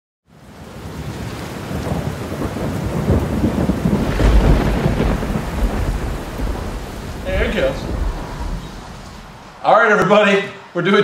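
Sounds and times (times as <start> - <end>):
steady rain: 0.3 - 11.0
thunder rumbling: 0.6 - 10.1.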